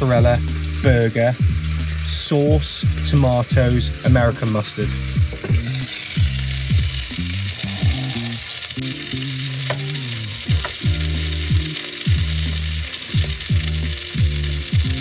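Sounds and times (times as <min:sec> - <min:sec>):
background music with bass: 0:00.0 - 0:15.0
burger patties sizzling in a pan: 0:00.0 - 0:15.0.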